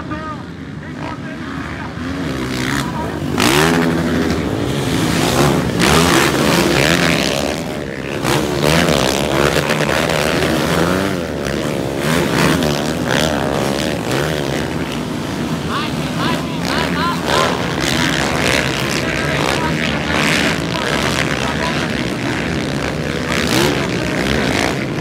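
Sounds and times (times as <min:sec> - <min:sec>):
engines revving: 0:00.0 - 0:25.0
motocross bikes racing past: 0:00.0 - 0:25.0.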